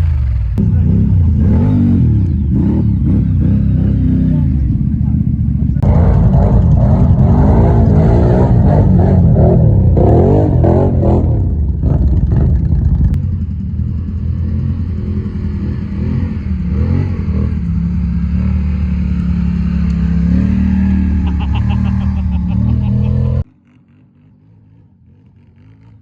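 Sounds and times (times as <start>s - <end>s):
engine revving: 0.0s - 26.0s
engine running at low revs: 0.0s - 26.0s.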